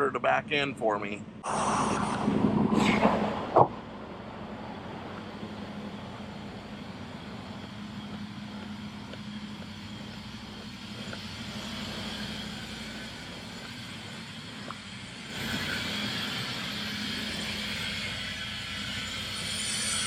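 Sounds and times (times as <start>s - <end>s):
diesel truck engine running: 3.3s - 19.5s.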